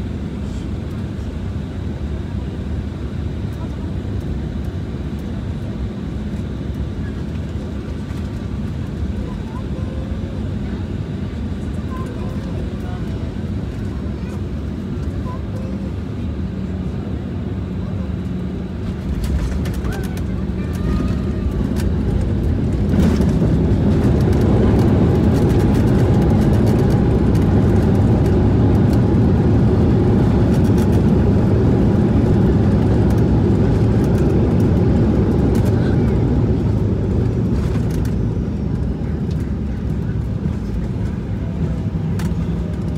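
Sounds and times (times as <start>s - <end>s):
jet engines and wheels rumbling: 0.0s - 42.9s.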